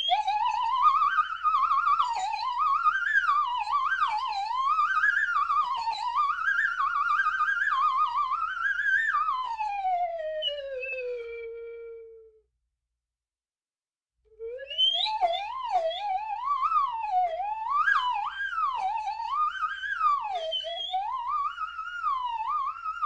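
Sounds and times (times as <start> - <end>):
slide whistle: 0.0 - 12.4, 14.3 - 23.0.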